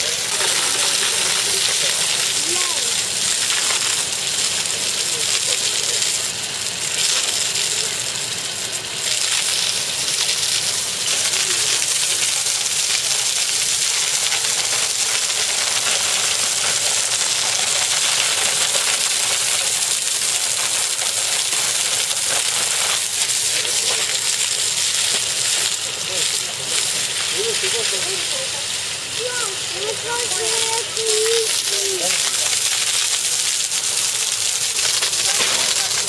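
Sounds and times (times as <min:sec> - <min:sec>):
hose spray hissing and pattering: 0:00.0 - 0:36.0.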